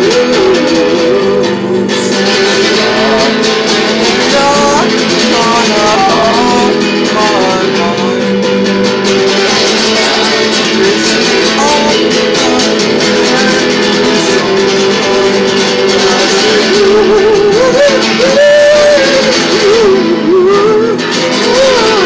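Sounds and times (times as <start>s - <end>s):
guitar chords: 0.0s - 22.0s
man singing: 0.0s - 22.0s.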